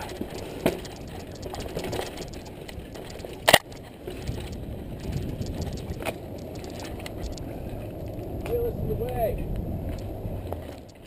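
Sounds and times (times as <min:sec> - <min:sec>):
bike tyres rumbling over rocks: 0:00.0 - 0:11.0.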